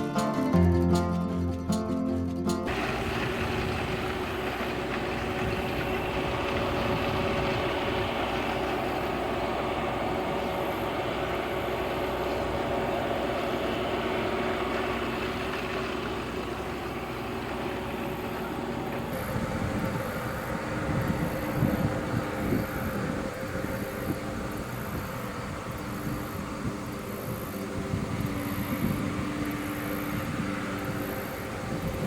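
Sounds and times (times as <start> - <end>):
harvesting machinery droning: 2.7 - 32.0.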